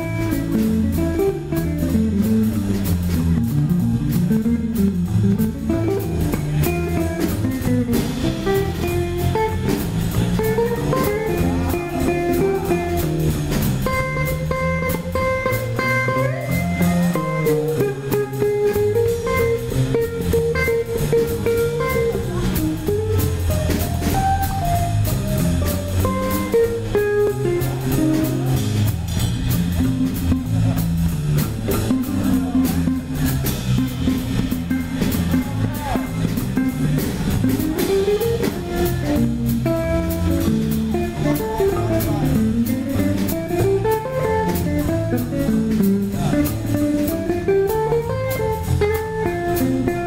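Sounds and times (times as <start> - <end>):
drum kit with cymbals: 0.0 - 50.0
electric bass: 0.0 - 50.0
electric guitar melody: 0.0 - 50.0.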